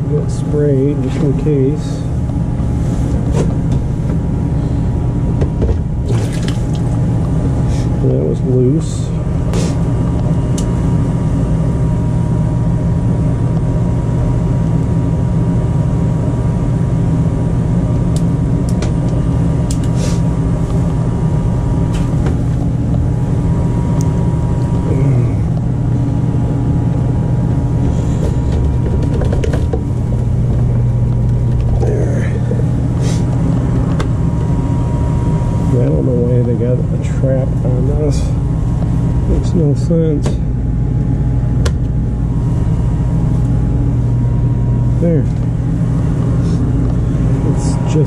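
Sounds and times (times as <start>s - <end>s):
furnace humming: 0.0s - 48.0s.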